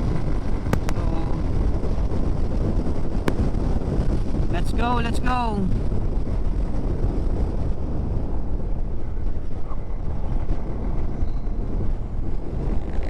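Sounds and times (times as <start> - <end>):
wind rumble on microphone: 0.0 - 4.9, 5.6 - 13.0.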